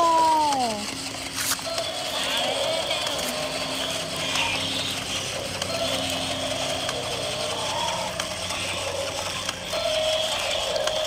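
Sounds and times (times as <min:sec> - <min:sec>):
toy gear motor clicking: 0:00.0 - 0:11.0.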